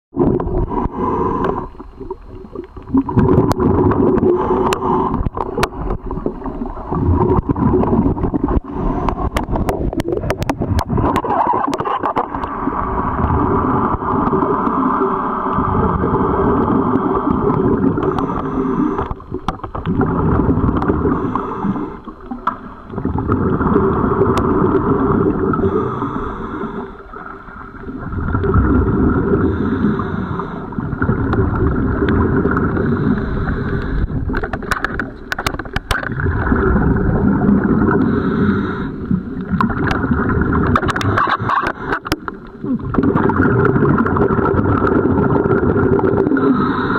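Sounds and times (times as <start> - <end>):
scuba regulator bubbling underwater: 0.1 - 46.9.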